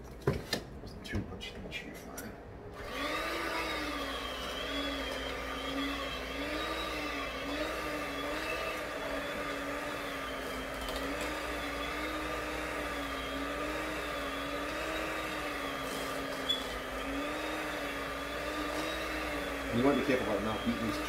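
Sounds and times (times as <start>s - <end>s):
electric mixer running: 2.7s - 21.0s.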